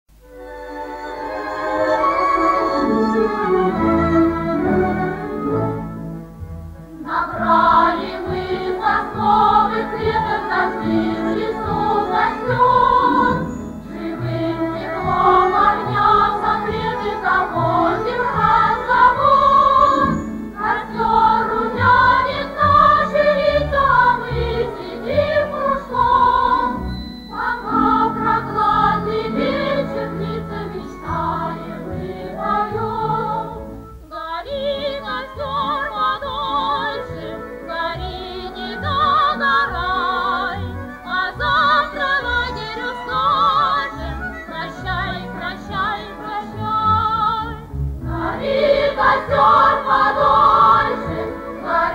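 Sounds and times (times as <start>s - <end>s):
instrumental accompaniment: 0.1s - 51.9s.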